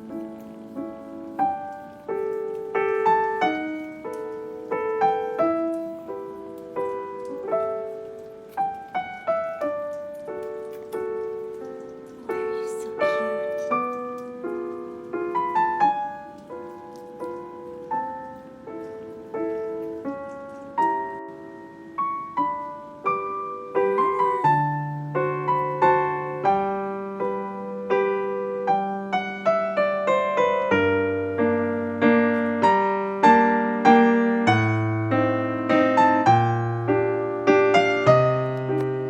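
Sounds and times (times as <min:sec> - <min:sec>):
gentle solo piano piece: 0:00.0 - 0:39.0.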